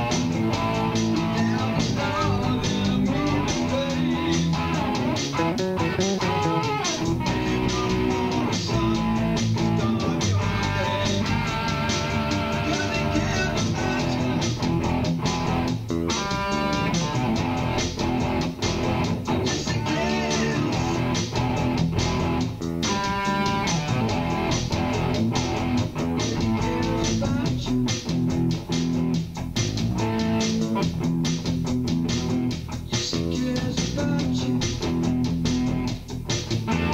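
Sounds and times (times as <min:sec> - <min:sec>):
bass line: 0:00.0 - 0:36.9
plucked guitar: 0:00.0 - 0:36.9.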